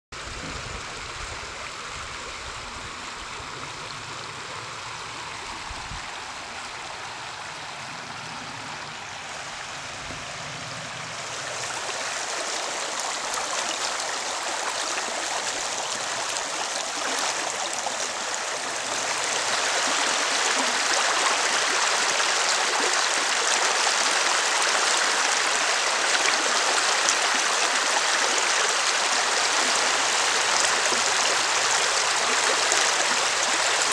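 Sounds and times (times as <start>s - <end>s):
running water rushing: 0.2s - 33.9s.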